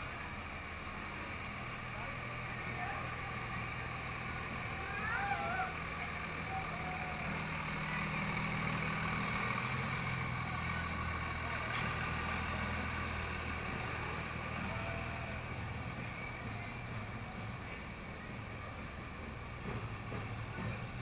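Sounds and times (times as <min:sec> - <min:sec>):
pickup truck engine running: 0:00.0 - 0:21.0.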